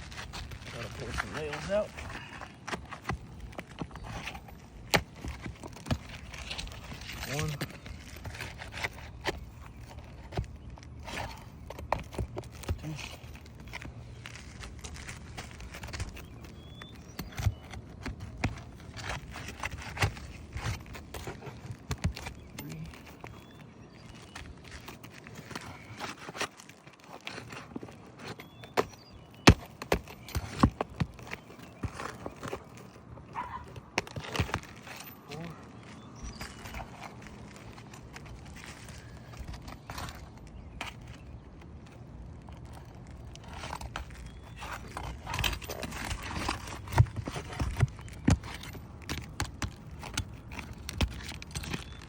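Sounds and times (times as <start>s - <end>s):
scraping on roof shingles: 0.0s - 52.0s.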